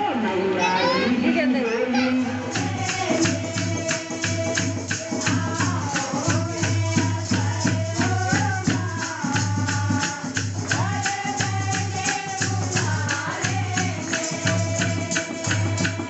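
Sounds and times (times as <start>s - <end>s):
person singing: 0.0s - 16.0s
rattling hand percussion: 1.9s - 16.0s.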